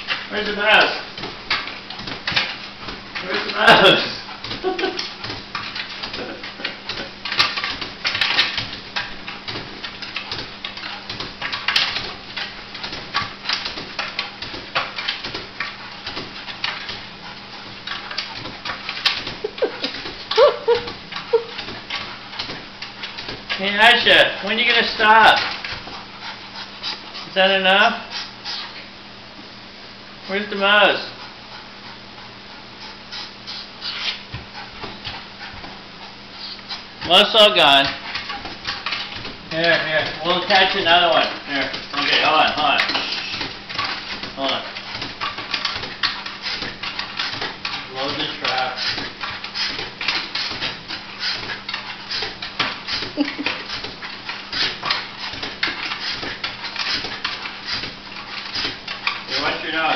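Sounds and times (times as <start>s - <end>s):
dog claws clicking on tile floor: 0.0s - 27.3s, 36.4s - 59.9s.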